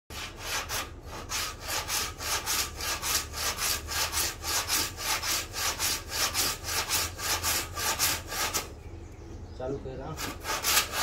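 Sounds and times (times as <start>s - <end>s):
hand saw cutting wood: 0.1s - 8.7s, 10.0s - 11.0s.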